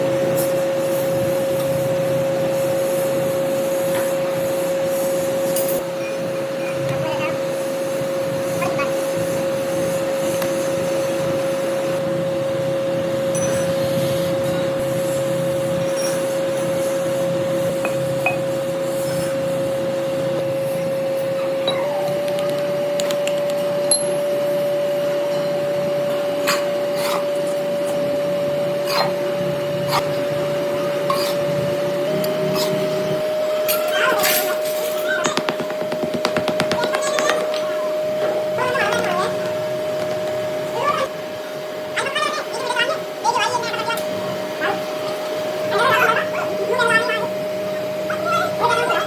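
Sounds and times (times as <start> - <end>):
workshop machine humming and whining: 0.0 - 49.0.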